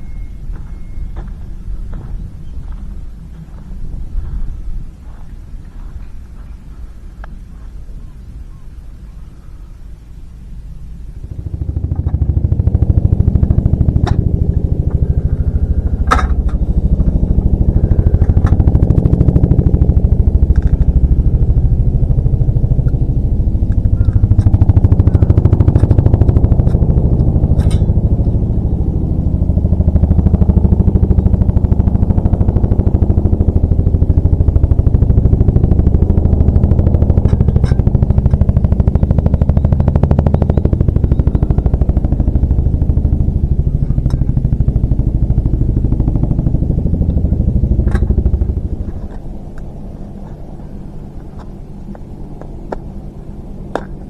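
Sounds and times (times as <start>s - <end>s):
vehicle engine droning: 0.0s - 8.3s, 9.1s - 54.0s.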